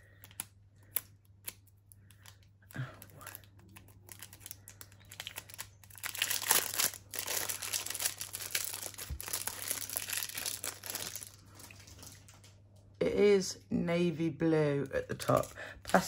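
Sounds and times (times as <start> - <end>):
packaging crinkling and rustling: 0.0 - 12.6, 15.0 - 16.0.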